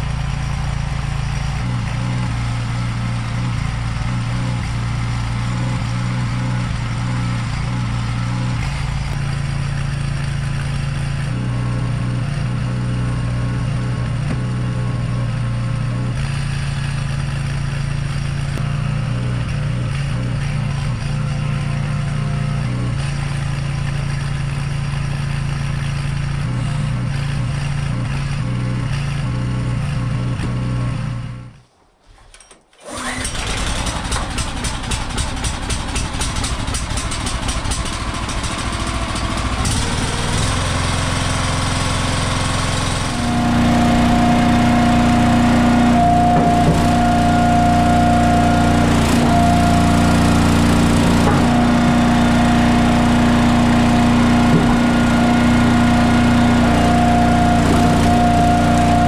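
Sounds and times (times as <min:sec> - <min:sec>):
log splitter engine running: 0:00.0 - 0:31.5, 0:32.3 - 0:59.0
tractor engine running: 0:00.0 - 0:59.0.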